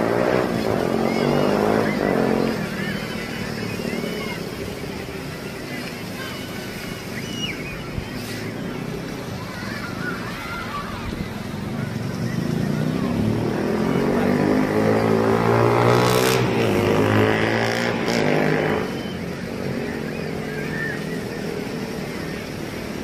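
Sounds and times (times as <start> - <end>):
motor engine passing by: 0.0 - 7.4, 8.0 - 23.0.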